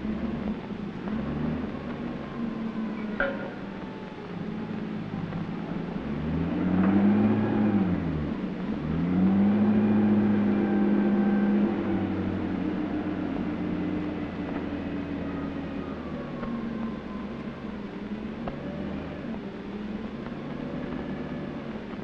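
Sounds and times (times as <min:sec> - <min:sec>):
engine revving: 0:00.0 - 0:03.9, 0:04.7 - 0:22.0.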